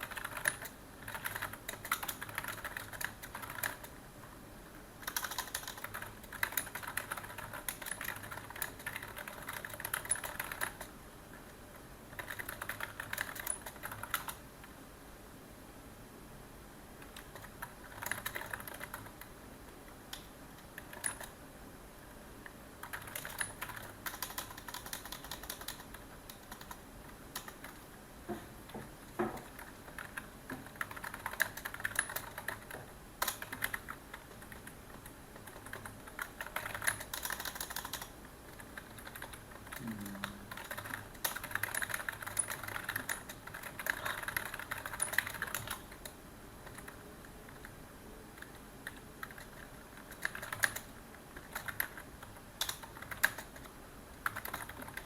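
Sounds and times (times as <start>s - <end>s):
computer keyboard typing: 0.0s - 4.0s, 5.0s - 11.5s, 12.1s - 14.4s, 17.0s - 19.3s, 20.1s - 21.4s, 22.4s - 27.8s, 28.8s - 47.7s, 48.4s - 55.0s.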